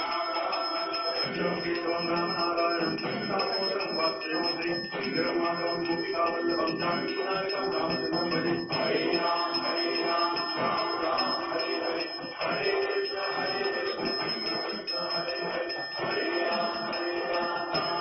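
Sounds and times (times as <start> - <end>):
devotional chanted singing: 0.0 - 18.0
high pulsing ringing: 0.0 - 18.0.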